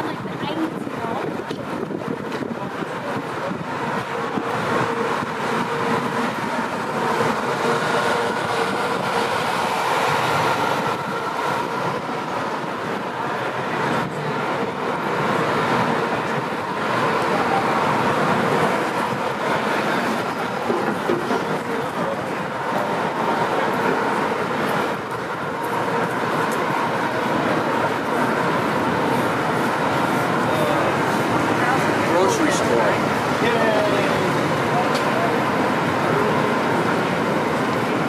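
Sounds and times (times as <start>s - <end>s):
city traffic: 0.0s - 38.0s.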